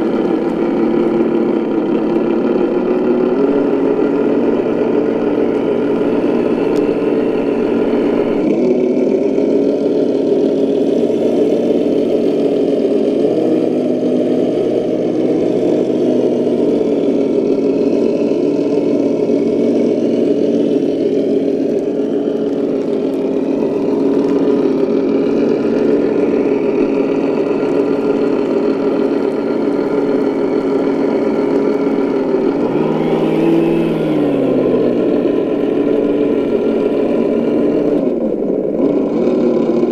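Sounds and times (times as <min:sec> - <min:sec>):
rc car motor droning: 0:00.0 - 0:39.9.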